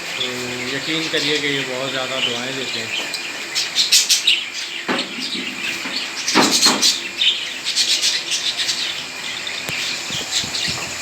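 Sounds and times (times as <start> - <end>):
parrots chirping: 0.0 - 11.0.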